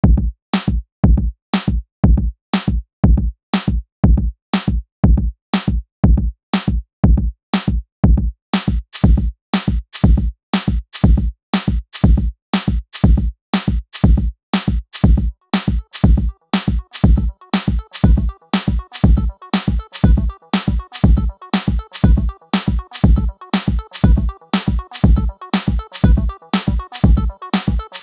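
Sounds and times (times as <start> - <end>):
kick drum beat: 0.0 - 28.0.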